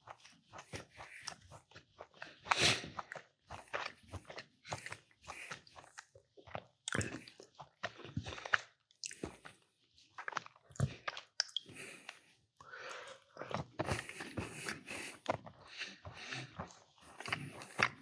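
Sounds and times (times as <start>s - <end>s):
person chewing crunchy cookies: 0.0s - 18.0s.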